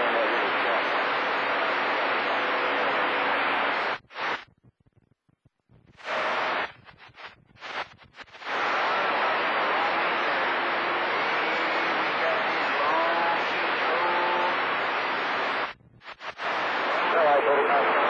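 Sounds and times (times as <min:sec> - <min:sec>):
radio receiver hiss: 0:00.0 - 0:04.5, 0:06.0 - 0:18.0.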